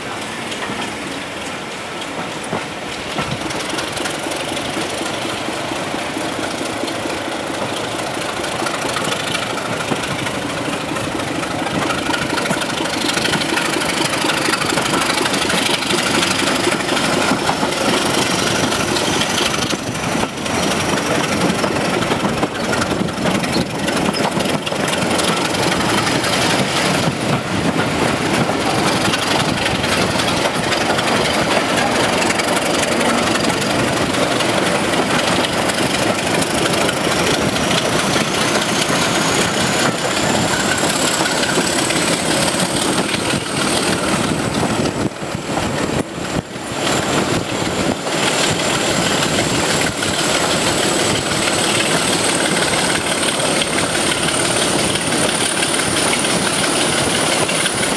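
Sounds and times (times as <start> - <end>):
coaches rumbling on rails: 0.0 - 57.9
diesel locomotive engine working: 0.0 - 57.9.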